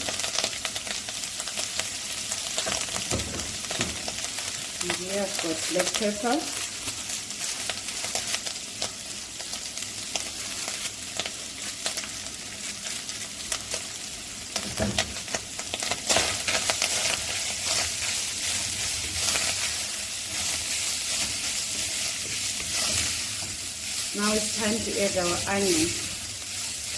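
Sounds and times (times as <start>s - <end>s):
meat frying in a pan: 0.0s - 26.9s.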